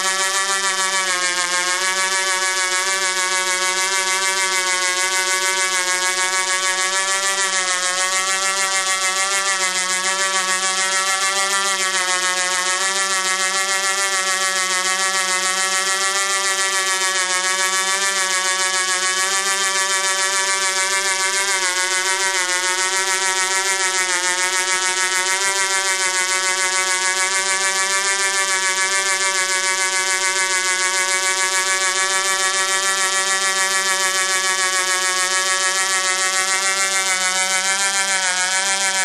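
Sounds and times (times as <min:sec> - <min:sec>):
model helicopter engine droning: 0:00.0 - 0:39.0.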